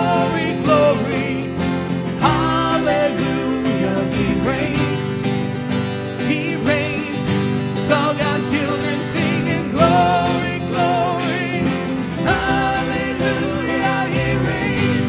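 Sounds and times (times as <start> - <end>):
electric guitar: 0.0 - 15.0
strummed acoustic guitars: 0.0 - 15.0.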